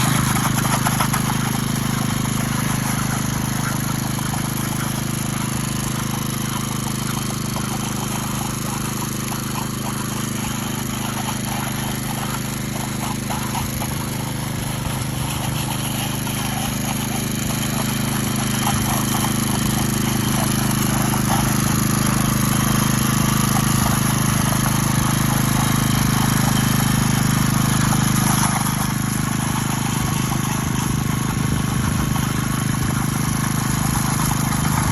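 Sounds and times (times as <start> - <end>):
power trowel engine humming: 0.0 - 34.9.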